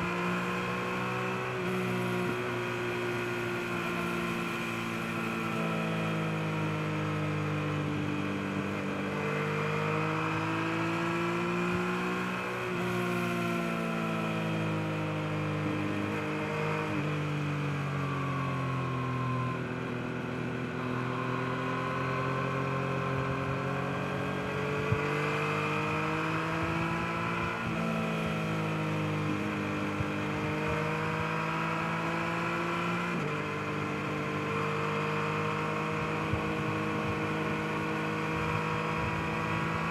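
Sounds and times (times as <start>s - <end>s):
motorcycle engine revving: 0.0s - 18.4s, 20.2s - 39.9s.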